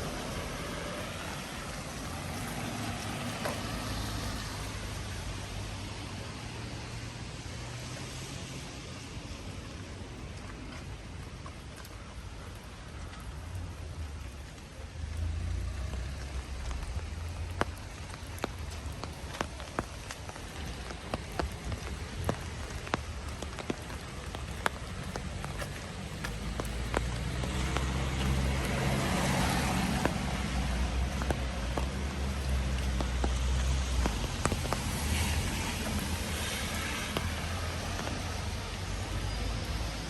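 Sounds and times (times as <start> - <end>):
raindrop taps: 0.0 - 6.4, 10.2 - 40.0
steady rain hissing: 0.0 - 40.0.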